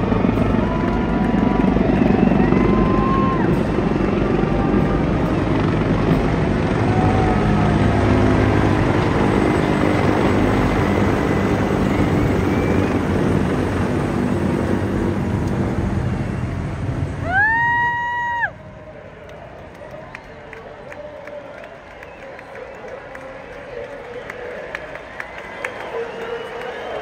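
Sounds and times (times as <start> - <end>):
helicopters flying overhead: 0.0 - 27.0.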